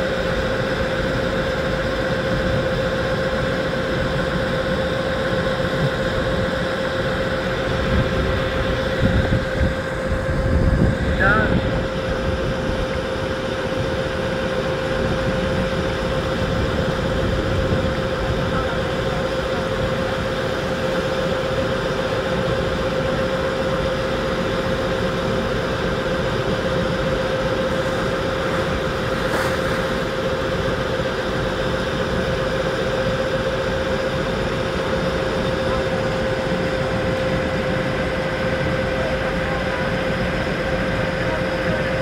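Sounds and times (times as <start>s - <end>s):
ship engine droning: 0.0s - 42.0s
water wash: 0.0s - 42.0s.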